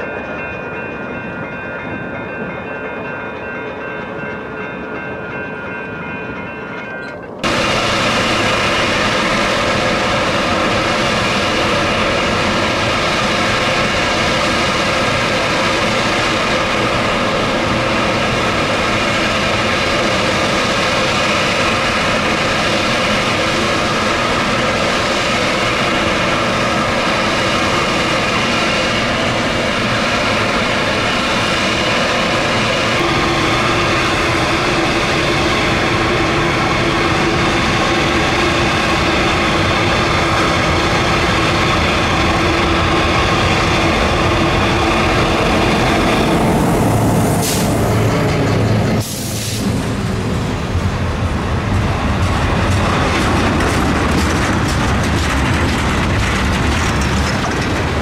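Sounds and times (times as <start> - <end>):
diesel locomotive engine running: 7.3 - 58.0.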